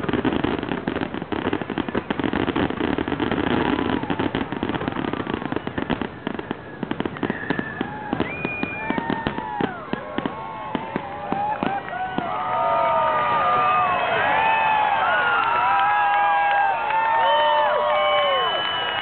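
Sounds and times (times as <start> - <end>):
fireworks bangs and crackles: 0.0 - 19.0
people whooping and cheering: 2.3 - 19.0.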